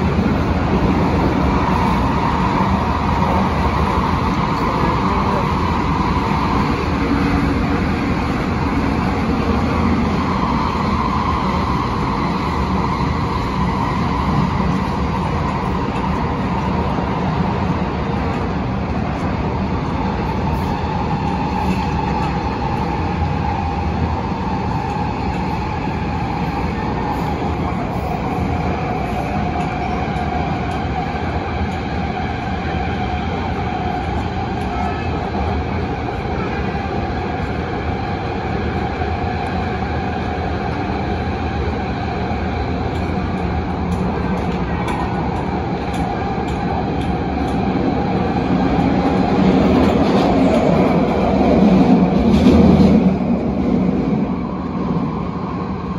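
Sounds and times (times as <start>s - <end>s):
train wheels rumbling on rail: 0.0s - 55.9s
train whining tone: 0.0s - 55.9s.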